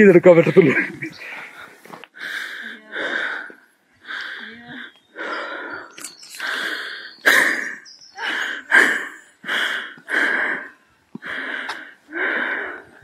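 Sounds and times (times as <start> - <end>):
person breathing hard: 1.1 - 13.0.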